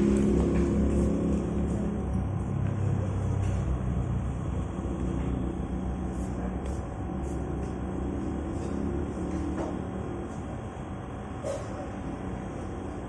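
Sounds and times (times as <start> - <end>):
engine idling: 0.0 - 11.3.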